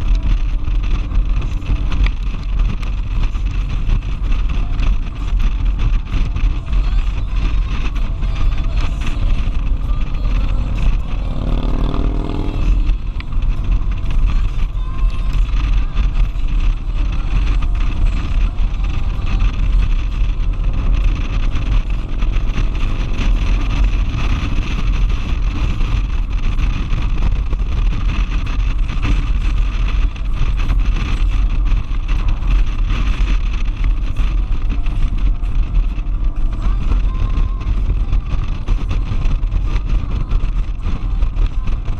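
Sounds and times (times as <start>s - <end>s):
motorcycle engine and road rumble: 0.0s - 41.9s
wind buffeting: 0.0s - 41.9s.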